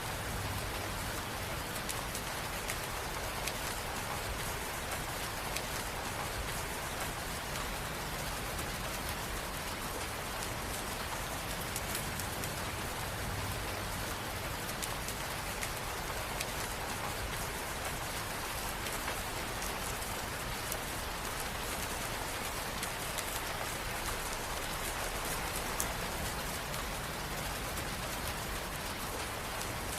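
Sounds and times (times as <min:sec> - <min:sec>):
rain on hard surfaces: 0:00.0 - 0:29.9.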